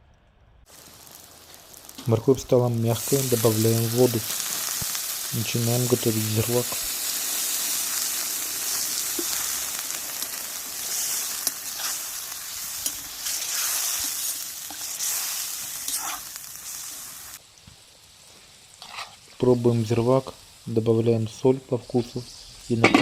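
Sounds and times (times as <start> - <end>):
meat sizzling in hot fat: 0.7 - 23.0.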